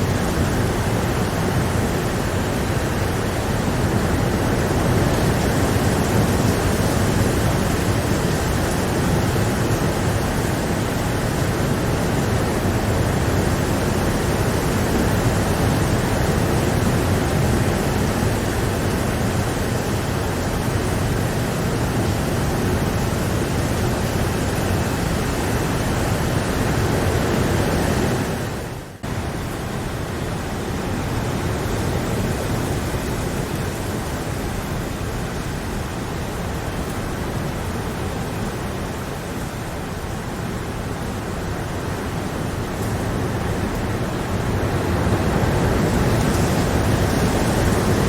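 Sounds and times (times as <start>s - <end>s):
steady rain hiss: 0.0s - 48.0s.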